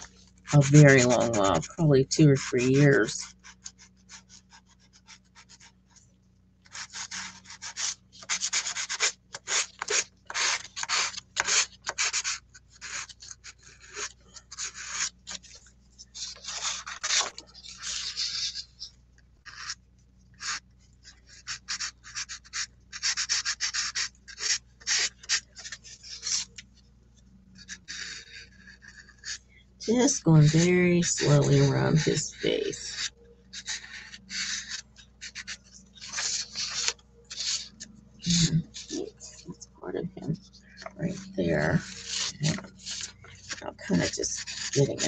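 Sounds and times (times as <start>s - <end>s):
pastel scratching on paper: 0.0s - 6.0s, 6.7s - 19.8s, 20.4s - 26.6s, 27.6s - 39.5s, 40.3s - 45.0s.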